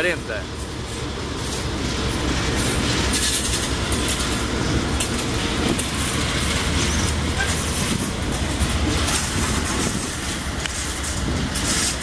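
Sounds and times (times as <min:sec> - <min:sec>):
diesel locomotive engines rumbling: 0:00.0 - 0:12.0
train wheels clicking over rail joints: 0:00.0 - 0:12.0.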